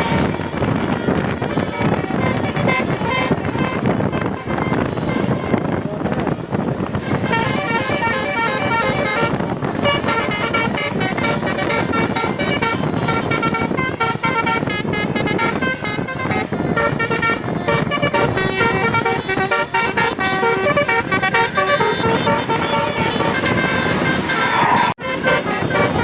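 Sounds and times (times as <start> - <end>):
bus musical horn tune: 0.0 - 26.0
vehicle and street noise: 0.0 - 26.0.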